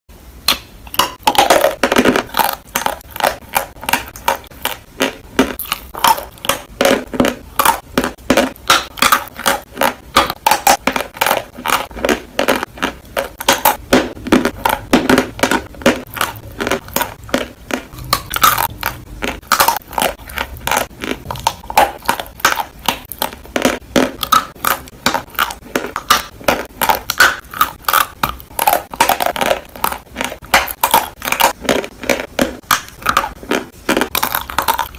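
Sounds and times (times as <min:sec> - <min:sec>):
crunching and chewing chalk: 0:00.5 - 0:34.9.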